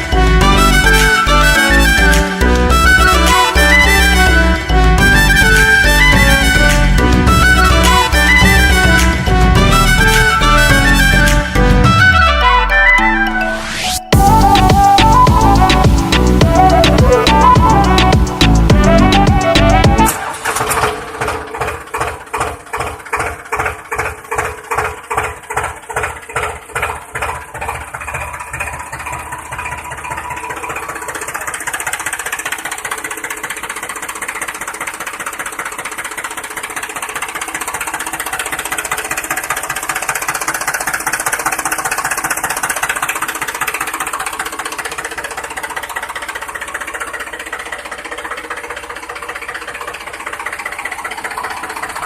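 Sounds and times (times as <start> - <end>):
tractor engine chugging: 0.0 - 13.2, 14.1 - 52.0.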